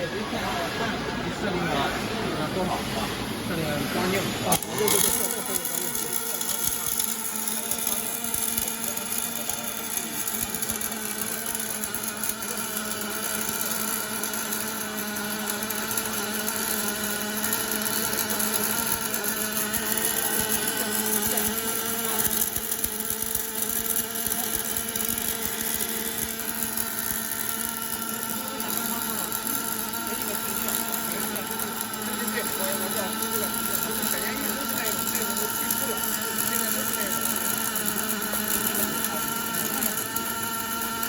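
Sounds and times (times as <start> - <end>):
welding machine humming: 0.0 - 41.0.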